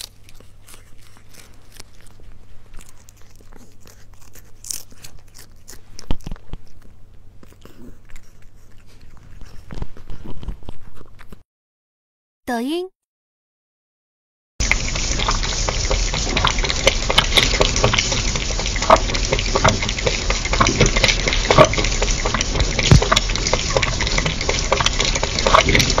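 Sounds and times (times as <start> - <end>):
cat lapping liquid: 0.0 - 11.4, 14.6 - 26.0.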